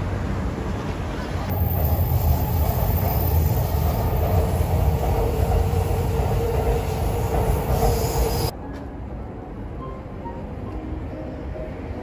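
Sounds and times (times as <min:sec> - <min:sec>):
train rumbling over viaduct: 0:00.0 - 0:12.0
mid-pitched train whine: 0:01.5 - 0:12.0.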